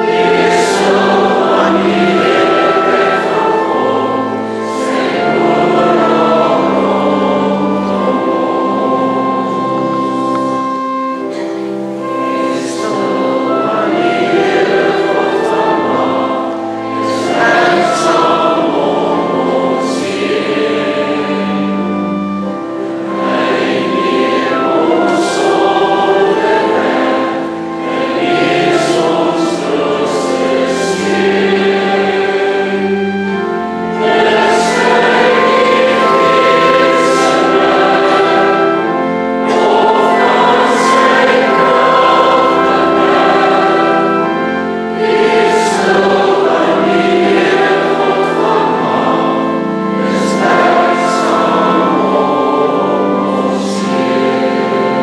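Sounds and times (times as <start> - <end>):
church organ chords: 0.0 - 55.0
congregation singing a hymn: 0.0 - 55.0.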